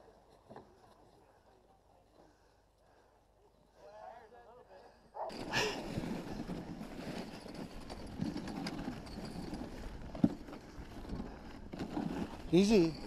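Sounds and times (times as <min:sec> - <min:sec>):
sled runners scraping and rattling: 0:00.0 - 0:03.0, 0:05.2 - 0:13.0.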